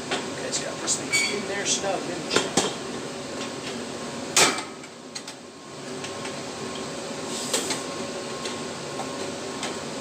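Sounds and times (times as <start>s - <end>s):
furnace humming: 0.0s - 10.0s.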